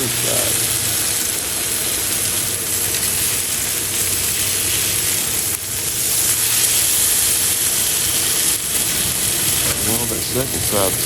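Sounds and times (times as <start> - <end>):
steaks sizzling on griddle: 0.0 - 11.0.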